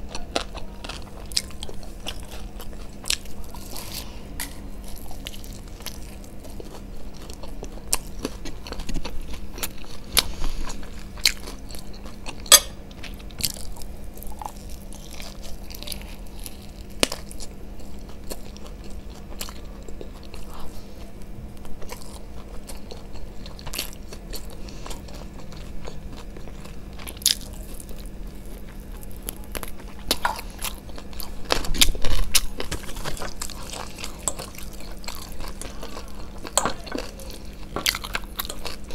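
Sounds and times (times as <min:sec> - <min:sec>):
biting and crunching fried chicken: 0:00.0 - 0:38.9.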